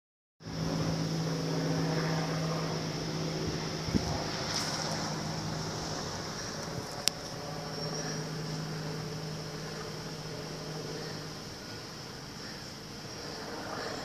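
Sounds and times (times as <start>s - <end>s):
helicopter flying overhead: 0.4s - 14.0s.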